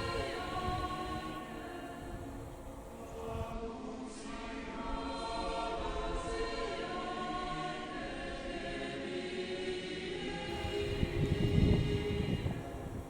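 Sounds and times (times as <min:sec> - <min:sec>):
choir-like voices music: 0:00.0 - 0:13.0.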